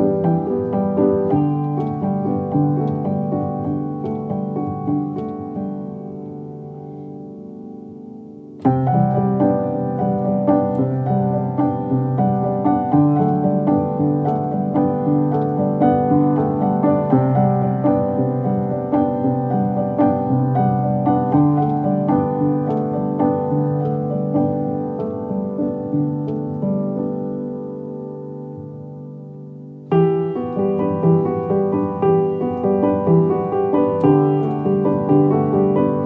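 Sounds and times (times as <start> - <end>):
piano music: 0.0 - 36.0.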